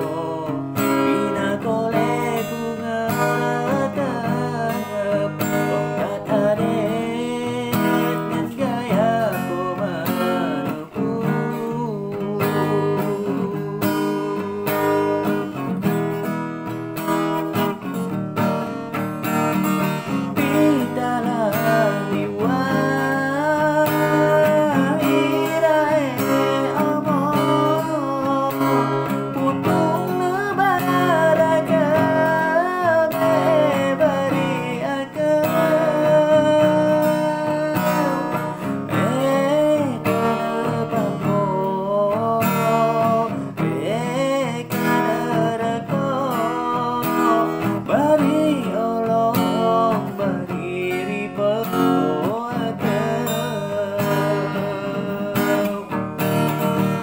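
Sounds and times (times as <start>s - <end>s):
guitar strumming: 0.0s - 57.0s
man singing: 0.0s - 57.0s.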